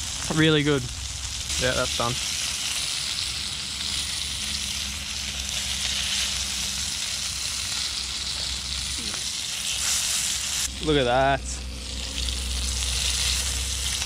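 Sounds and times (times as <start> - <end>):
fish frying in hot oil: 0.0 - 10.8, 11.7 - 14.0.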